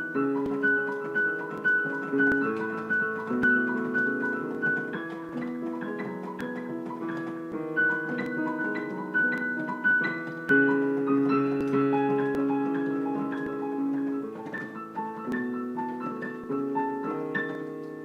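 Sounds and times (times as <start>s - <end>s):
slow piano melody: 0.0s - 18.0s.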